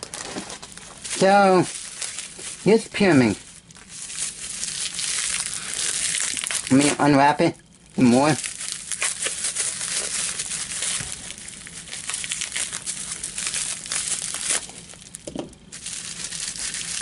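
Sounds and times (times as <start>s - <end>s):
bubble wrap crackling: 0.0s - 17.0s.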